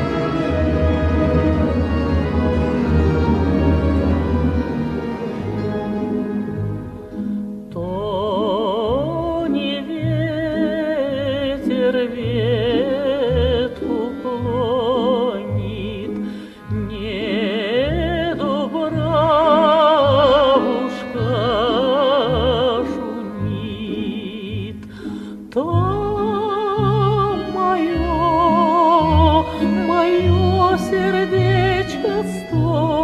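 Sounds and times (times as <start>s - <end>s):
opera-like vocal melody: 0.0s - 33.0s.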